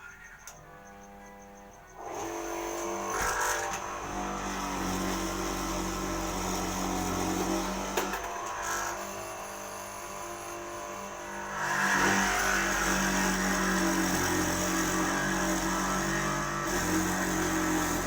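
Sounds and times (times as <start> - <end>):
mortising machine motor running: 0.1 - 18.0.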